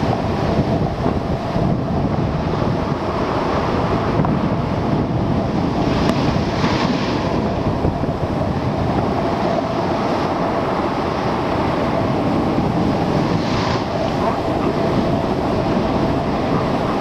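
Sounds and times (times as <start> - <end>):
waves breaking against rocks: 0.0 - 17.0
wind buffeting microphone: 0.0 - 17.0.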